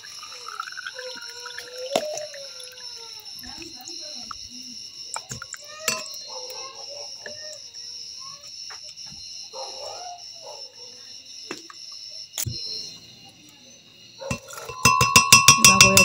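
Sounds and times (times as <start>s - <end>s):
faint distant voices: 0.1s - 16.0s.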